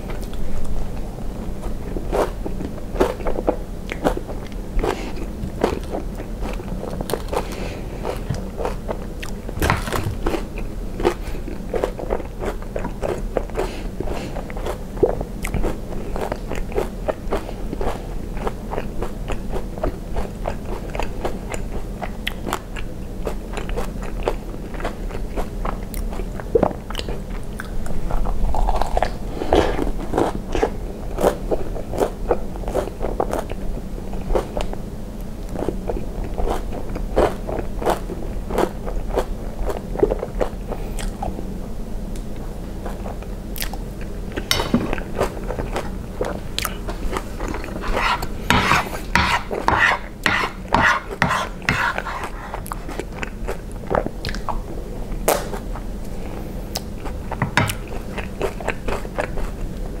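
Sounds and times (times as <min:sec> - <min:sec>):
person chewing with wet smacks: 0:01.7 - 0:33.6, 0:42.8 - 0:55.8, 0:56.7 - 1:00.0.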